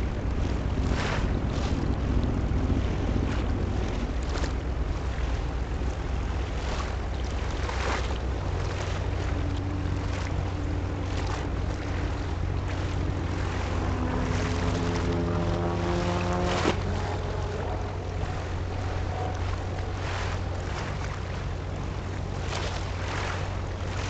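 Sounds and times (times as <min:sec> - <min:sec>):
ship engine low rumble: 0:00.0 - 0:24.0
waves washing: 0:00.0 - 0:24.0
wind buffeting microphone: 0:00.0 - 0:24.0.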